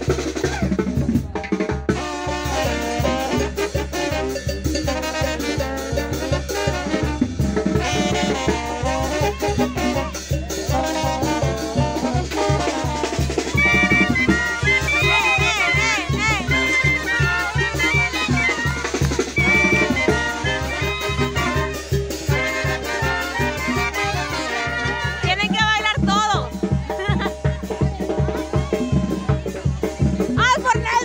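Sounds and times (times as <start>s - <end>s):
upbeat dance music with brass: 0.0s - 31.0s.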